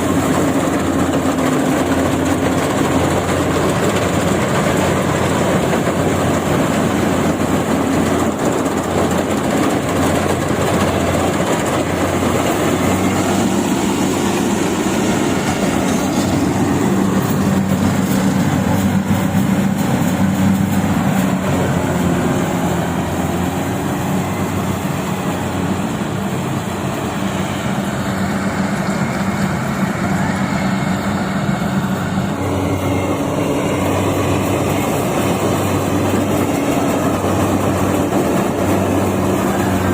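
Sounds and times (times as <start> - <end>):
threshing machinery clatter: 0.0 - 30.0, 30.9 - 39.9
combine harvester engine drone: 0.0 - 39.9.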